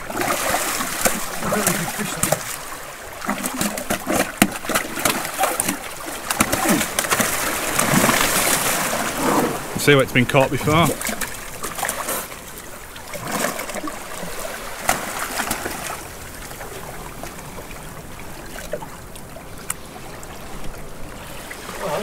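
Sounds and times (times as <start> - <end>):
sea water splashing over rocks: 0.0 - 22.0.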